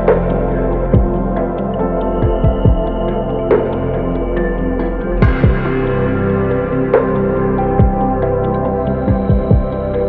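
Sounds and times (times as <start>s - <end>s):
ambient music with pads: 0.0s - 10.0s.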